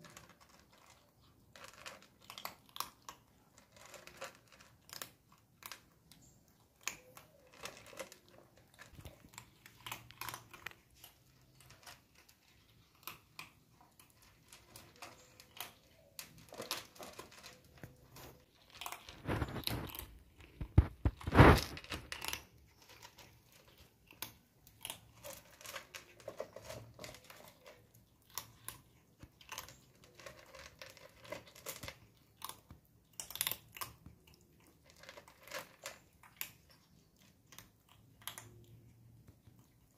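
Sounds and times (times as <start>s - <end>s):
kittens chewing and crunching: 0.0s - 39.9s.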